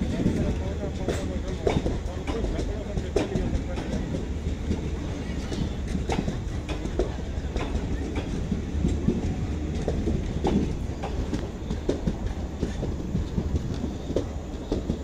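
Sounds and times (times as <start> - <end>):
train running gear rumble: 0.0 - 15.0
wheels clacking over rail joints: 0.0 - 15.0.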